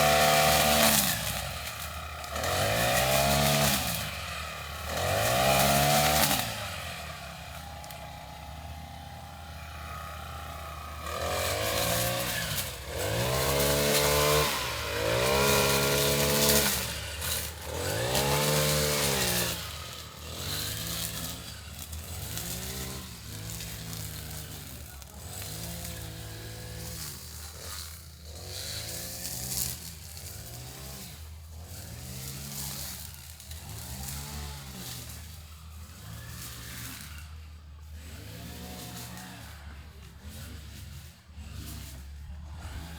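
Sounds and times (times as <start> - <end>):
lawnmower engine running: 0.0 - 42.9.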